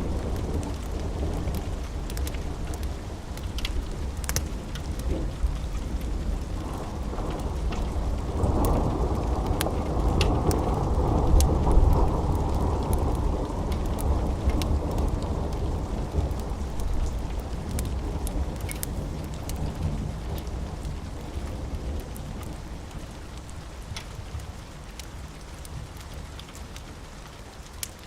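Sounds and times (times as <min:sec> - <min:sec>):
low rumble of thunder: 0:00.0 - 0:27.4
steady rain: 0:00.0 - 0:28.0.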